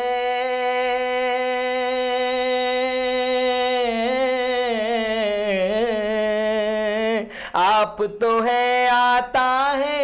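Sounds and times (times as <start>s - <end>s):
man singing: 0.0s - 10.0s.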